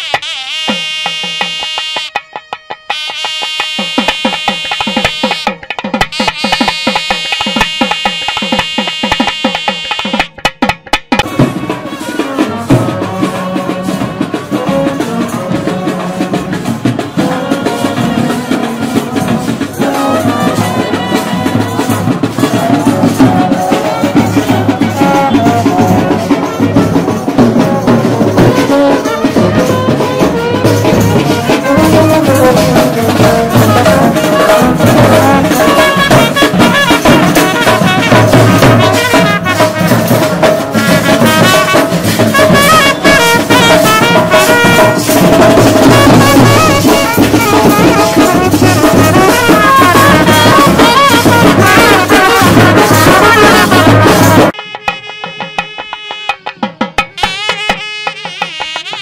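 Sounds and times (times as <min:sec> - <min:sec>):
cymbals: 0:00.0 - 0:10.4, 0:11.2 - 0:59.0
trumpets and horns: 0:00.0 - 0:10.4, 0:11.2 - 0:59.0
snare and bass drums: 0:00.0 - 0:59.0.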